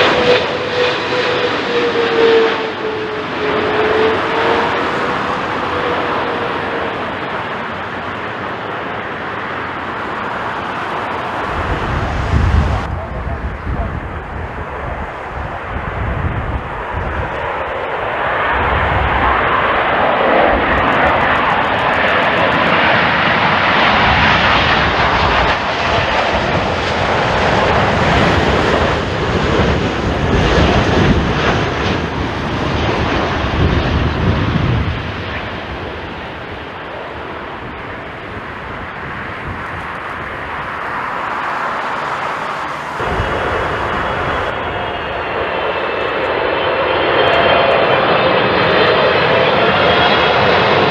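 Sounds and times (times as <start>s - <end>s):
high engine whine: 0.0s - 50.9s
jet engines roaring: 0.0s - 50.9s.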